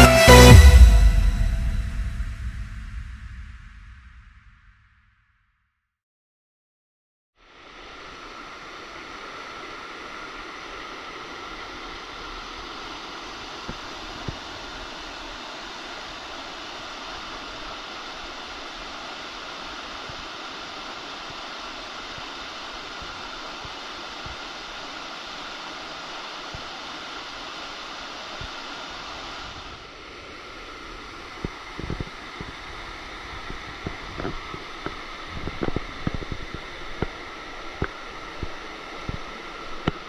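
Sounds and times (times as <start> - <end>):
water rushing over rapids: 7.4 - 40.0.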